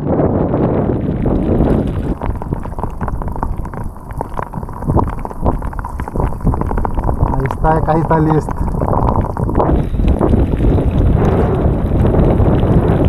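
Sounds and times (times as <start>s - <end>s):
wind buffeting microphone: 0.0s - 13.0s
water splashing and sloshing: 1.0s - 13.0s.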